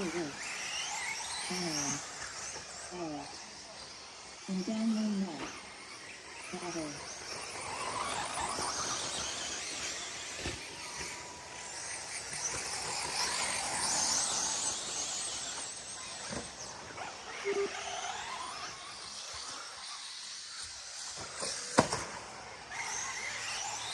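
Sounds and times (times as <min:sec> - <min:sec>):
electric motors whining: 0:00.0 - 0:23.9.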